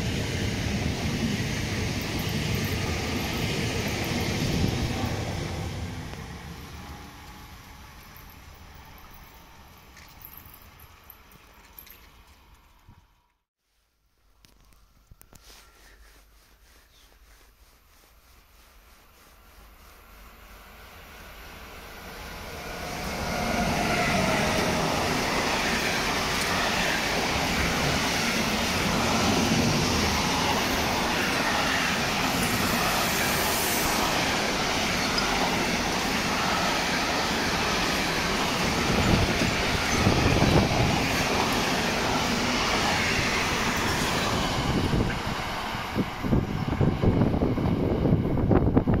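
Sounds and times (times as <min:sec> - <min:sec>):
wheels rattling on rail: 0:00.0 - 0:13.0, 0:19.6 - 0:49.0
freight train passing: 0:00.0 - 0:13.1, 0:19.6 - 0:49.0.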